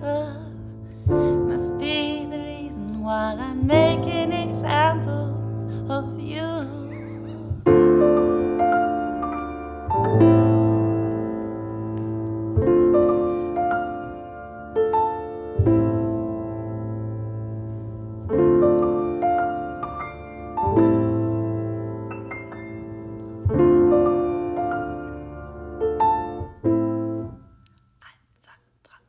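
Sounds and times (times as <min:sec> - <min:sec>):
grand piano playing slow chords: 0:00.0 - 0:27.7.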